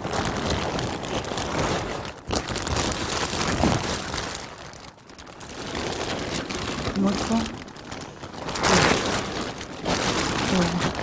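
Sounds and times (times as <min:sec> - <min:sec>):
plastic sheet rustling and crinkling: 0:00.0 - 0:11.0.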